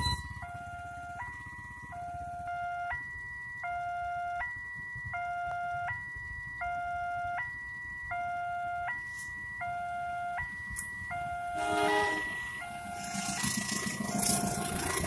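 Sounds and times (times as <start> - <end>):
motorbike engines idling: 0.0 - 4.5, 6.7 - 15.0
two-tone level crossing alarm: 0.0 - 15.0.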